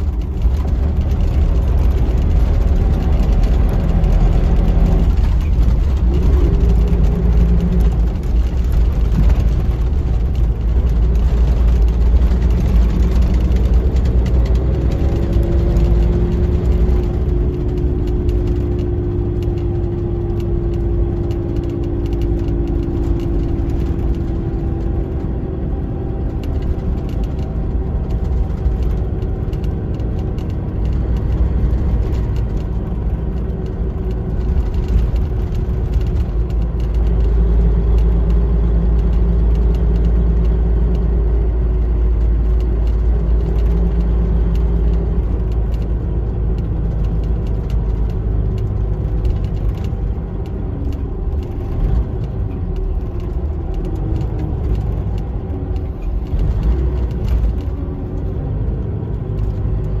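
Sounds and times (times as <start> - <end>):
diesel engine rumble: 0.0 - 60.0
road noise: 0.0 - 60.0.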